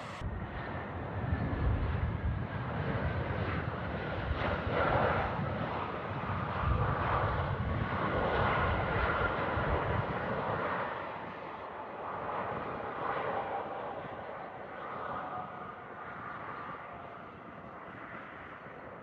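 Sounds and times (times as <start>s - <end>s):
airliner passing close by: 0.0s - 19.0s.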